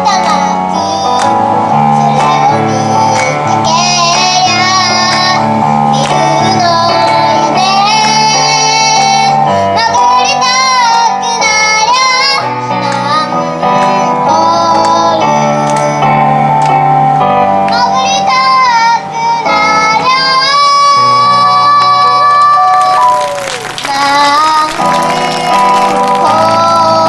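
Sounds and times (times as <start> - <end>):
girl singing with vibrato: 0.0 - 16.5, 17.4 - 27.0
instrumental music: 0.0 - 27.0.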